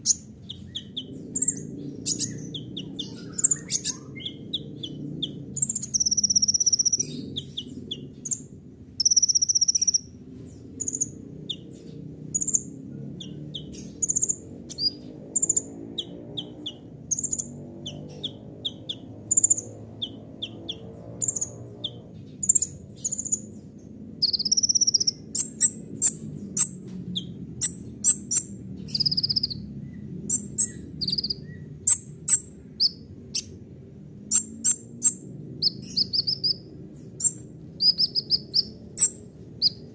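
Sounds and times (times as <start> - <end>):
bird chirping and trilling: 0.0 - 39.9
low steady hum: 0.0 - 39.9.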